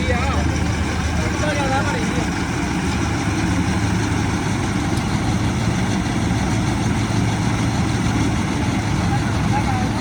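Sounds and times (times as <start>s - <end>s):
diesel tractor engine running: 0.0s - 10.0s.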